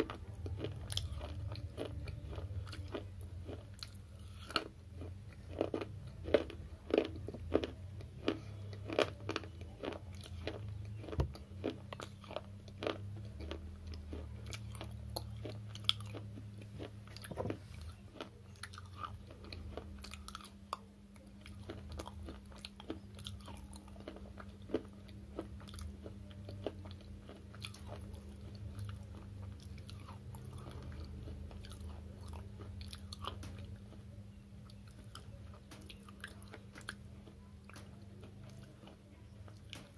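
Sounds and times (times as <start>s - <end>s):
crunching and chewing: 0.0s - 39.9s
faint low hum: 0.0s - 39.9s.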